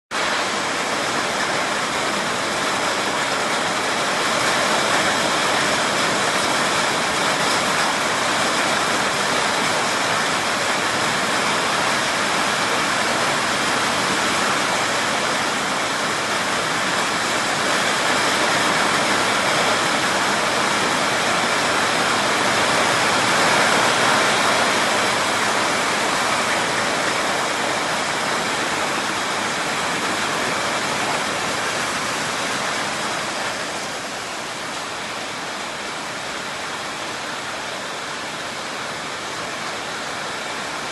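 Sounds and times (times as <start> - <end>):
heavy rain pouring: 0.1 - 40.9.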